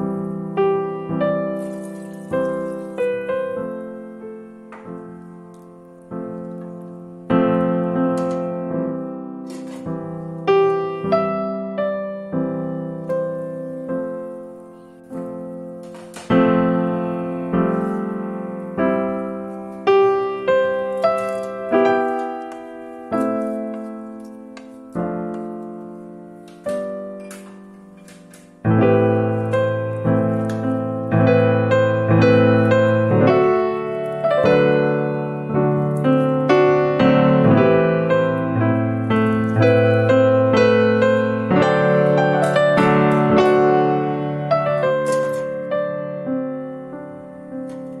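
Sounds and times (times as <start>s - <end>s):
slow piano chords: 0.0s - 48.0s.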